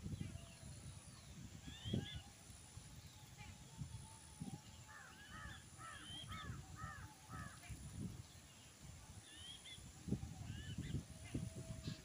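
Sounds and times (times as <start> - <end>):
low uneven background noise: 0.0 - 12.0.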